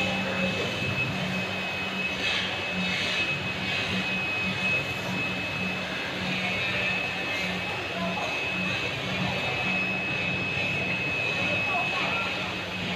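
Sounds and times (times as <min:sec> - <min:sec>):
machine drone with high whine: 0:00.0 - 0:12.9.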